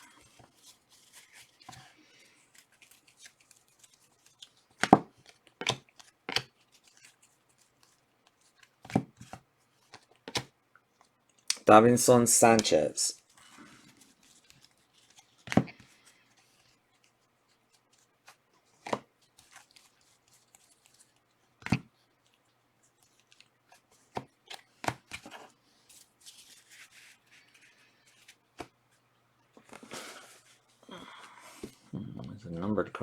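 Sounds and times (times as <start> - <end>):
cards sliding rustle: 0.0 - 11.2, 12.4 - 28.8, 29.6 - 31.9.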